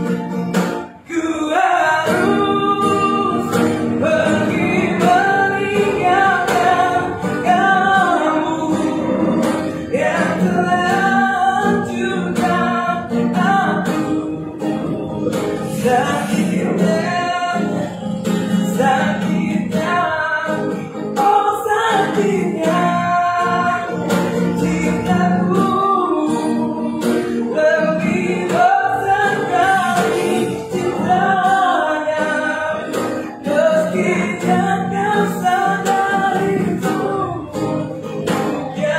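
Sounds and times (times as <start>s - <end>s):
strummed acoustic guitar: 0.0s - 38.9s
man singing: 0.8s - 38.9s.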